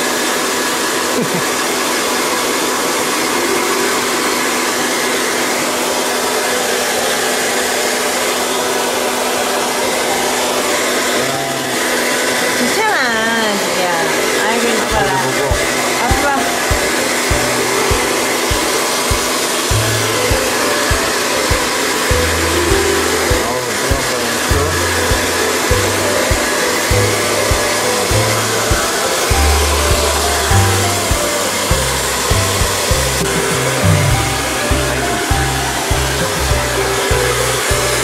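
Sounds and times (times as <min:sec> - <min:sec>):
hair dryer blowing: 0:00.0 - 0:38.0
background music: 0:03.4 - 0:38.0.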